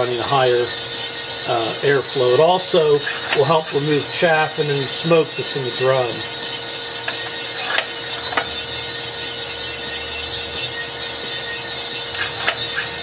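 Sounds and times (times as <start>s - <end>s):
coffee roaster hum: 0.0s - 13.0s.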